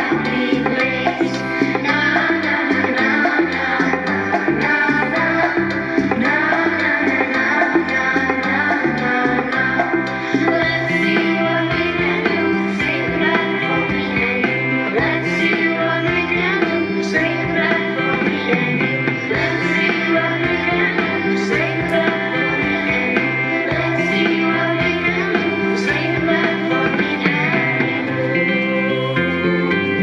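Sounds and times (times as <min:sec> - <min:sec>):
person singing: 0:00.0 - 0:30.0
pop music with guitar and drums: 0:00.0 - 0:30.0.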